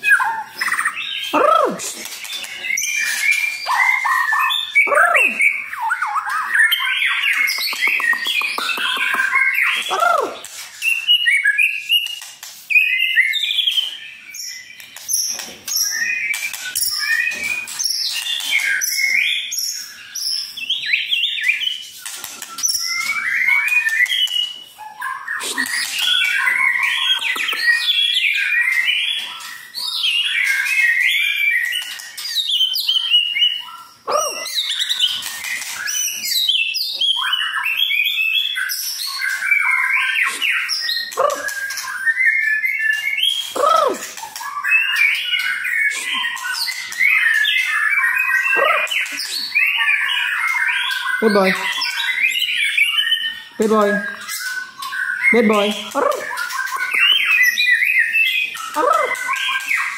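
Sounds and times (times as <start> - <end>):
bird singing whistled phrases: 0.0 - 21.8, 22.4 - 59.9.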